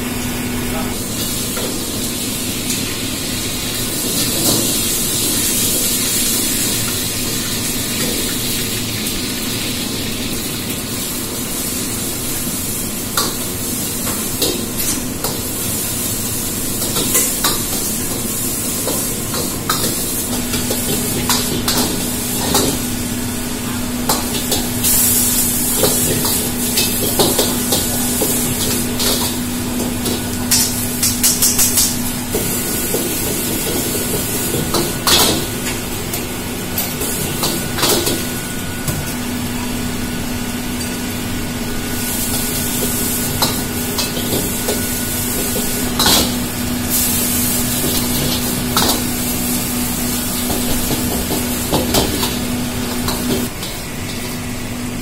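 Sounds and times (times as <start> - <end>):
wok sizzling: 0.0 - 55.0
gas burner hiss: 0.9 - 38.9, 40.0 - 53.8.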